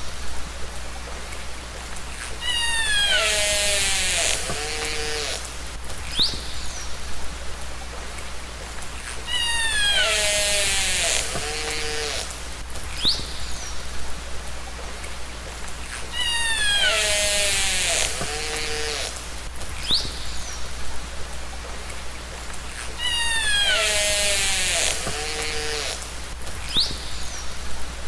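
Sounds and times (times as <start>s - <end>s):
steady underwater hiss: 0.0s - 28.0s.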